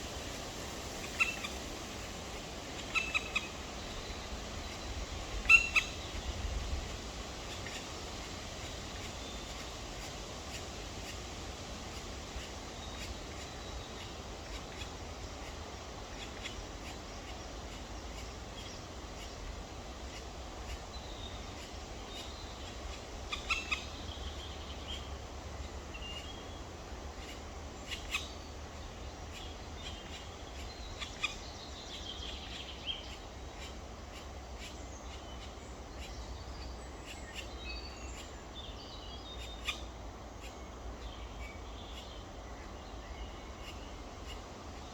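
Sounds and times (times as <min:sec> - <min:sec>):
steady low rumble and hiss: 0:00.0 - 0:44.9.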